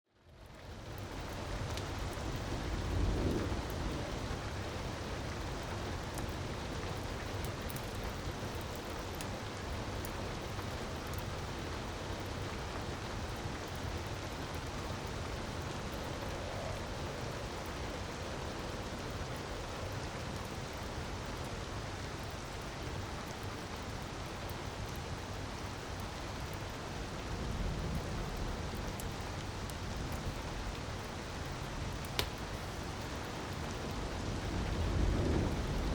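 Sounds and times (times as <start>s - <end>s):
faint fire crackles: 0.1s - 35.9s.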